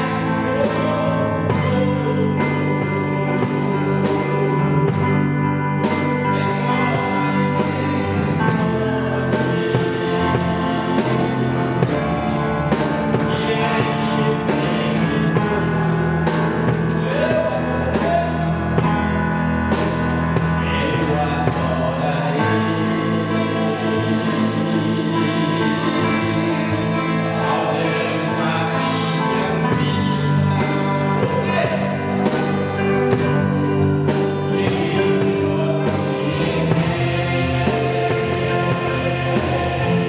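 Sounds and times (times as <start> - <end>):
electronic keyboard playing worship song: 0.0 - 40.0.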